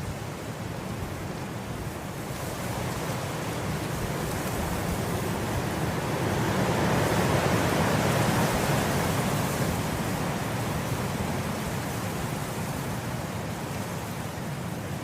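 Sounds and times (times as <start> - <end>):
wind blowing through grass: 0.0 - 15.0.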